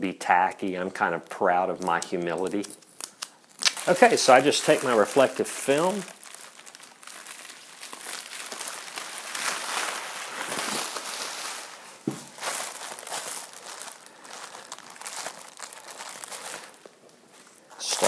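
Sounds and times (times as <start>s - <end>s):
foil film crinkling: 0.3s - 18.0s.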